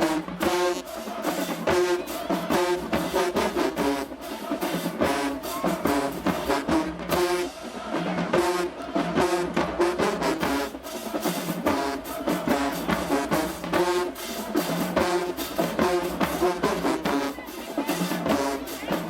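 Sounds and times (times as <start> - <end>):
brass chords: 0.0 - 19.0
drumline beat: 0.0 - 19.0.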